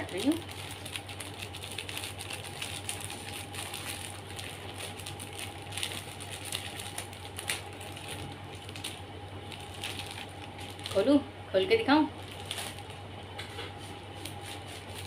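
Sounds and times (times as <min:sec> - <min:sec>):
scissors snipping plastic bag: 0:00.0 - 0:11.1, 0:12.2 - 0:12.9, 0:14.2 - 0:15.0.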